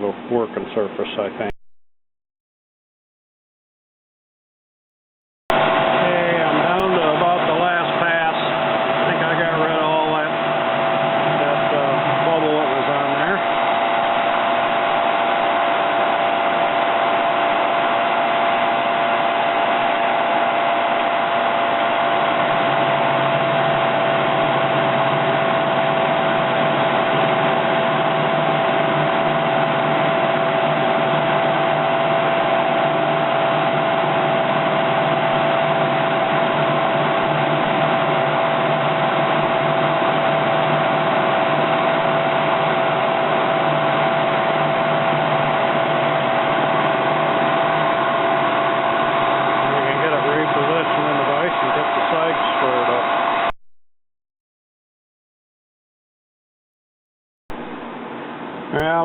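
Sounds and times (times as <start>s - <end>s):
low hum: 5.5s - 53.5s
milling machine motor whine: 5.5s - 53.5s.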